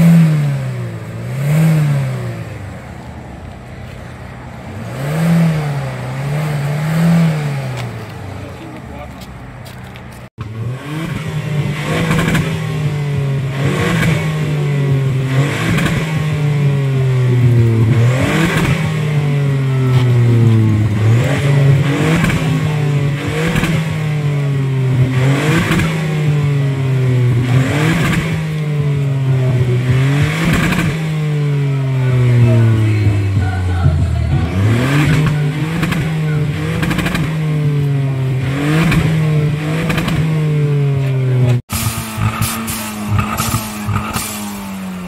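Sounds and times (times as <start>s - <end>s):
car exhaust revving: 0.0s - 45.0s.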